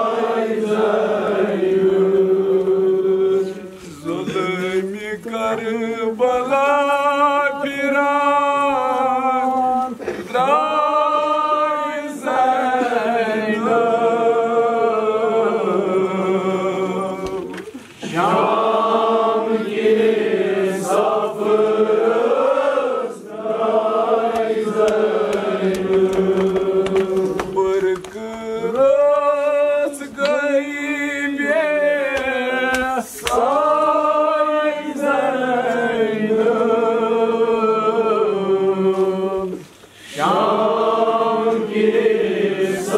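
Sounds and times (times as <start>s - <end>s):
men chanting unaccompanied: 0.0s - 42.9s.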